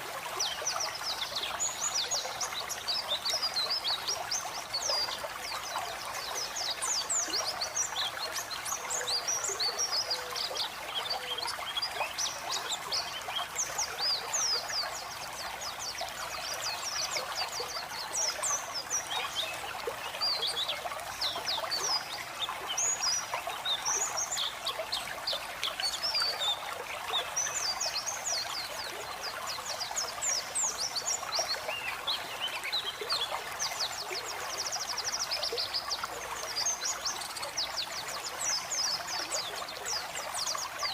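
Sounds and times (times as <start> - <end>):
birds chirping and twittering: 0.0 - 40.9
running water: 0.0 - 40.9.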